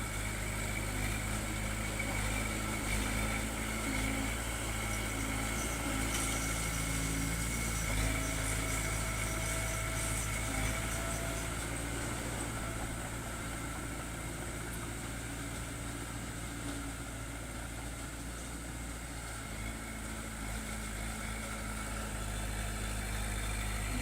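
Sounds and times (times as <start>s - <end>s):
diesel engine humming: 0.0s - 24.0s.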